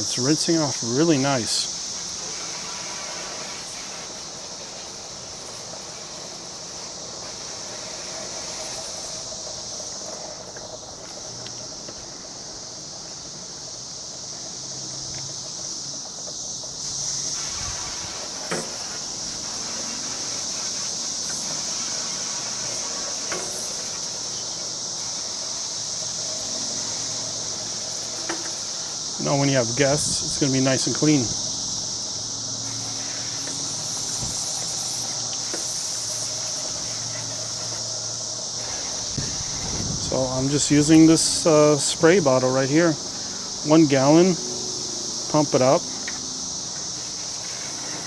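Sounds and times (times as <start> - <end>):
crickets trilling: 0.0 - 48.0
water hissing from pressure sprayer: 0.0 - 48.0.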